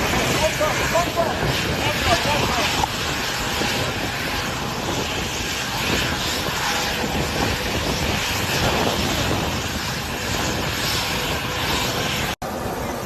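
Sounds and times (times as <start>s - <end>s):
jet aircraft engines running: 0.0s - 13.0s.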